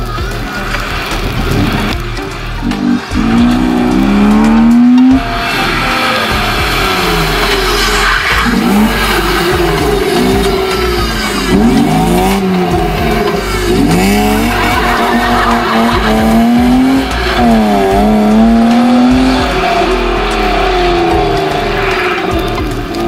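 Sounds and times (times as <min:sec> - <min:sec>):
rally car engine revving: 0:00.0 - 0:23.0
tyres hissing on wet tarmac: 0:00.0 - 0:23.0.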